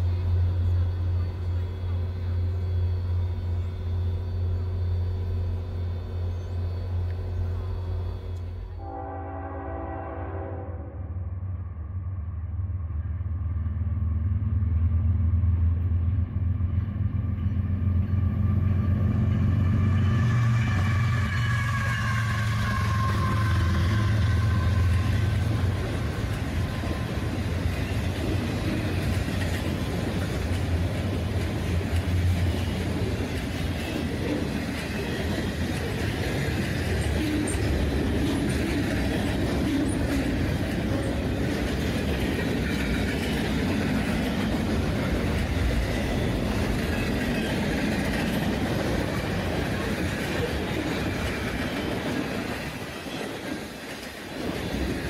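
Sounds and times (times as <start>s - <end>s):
freight cars rolling on rails: 0.0s - 9.2s, 15.0s - 55.0s
diesel locomotive engine rumble: 0.0s - 55.0s.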